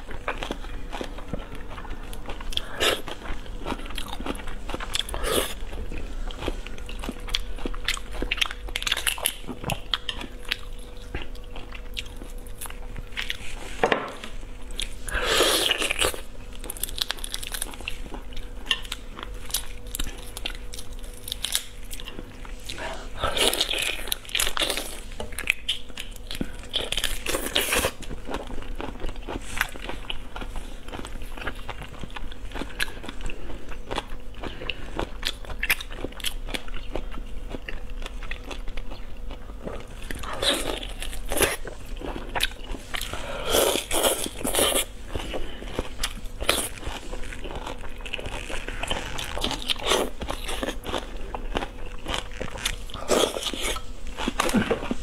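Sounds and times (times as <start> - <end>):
seafood crunching and chewing: 0.0 - 13.6, 14.6 - 55.0.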